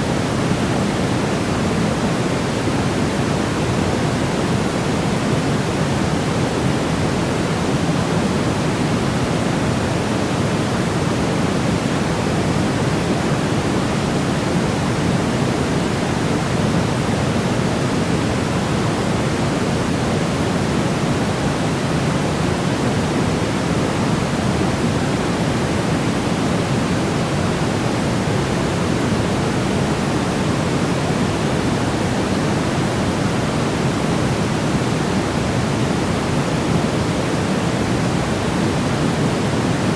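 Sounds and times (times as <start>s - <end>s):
steady low white noise hiss: 0.0s - 39.9s.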